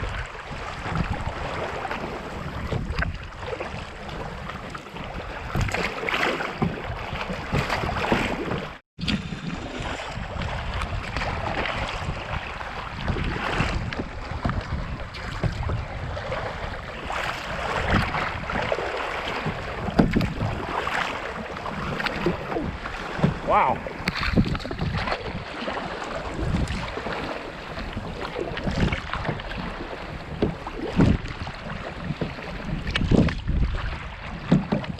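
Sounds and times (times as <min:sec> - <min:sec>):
water splashing against canoe: 0:00.0 - 0:34.9
wind buffeting microphone: 0:00.0 - 0:34.9.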